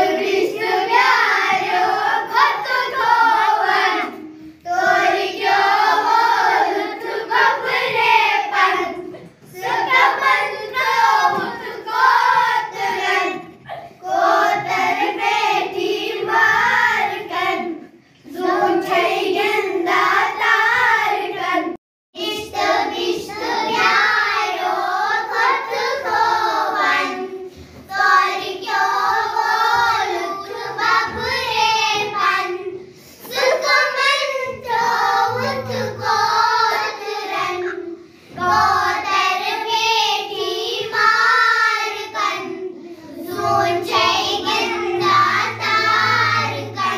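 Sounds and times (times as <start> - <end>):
children singing in unison: 0.0 - 46.9.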